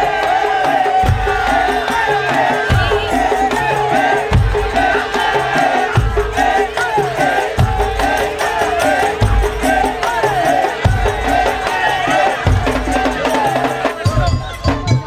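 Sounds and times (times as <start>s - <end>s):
deep drum beat: 0.0s - 15.0s
slit drum percussion music: 0.0s - 15.0s.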